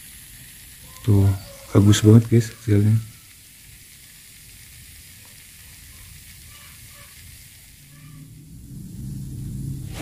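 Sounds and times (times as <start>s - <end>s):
batter sizzling in a mould: 0.0s - 10.0s.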